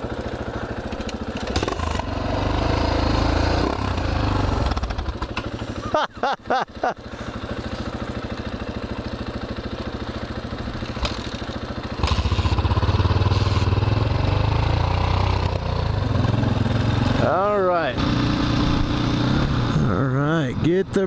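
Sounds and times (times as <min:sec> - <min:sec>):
dirt bike engines running: 0:00.0 - 0:21.0.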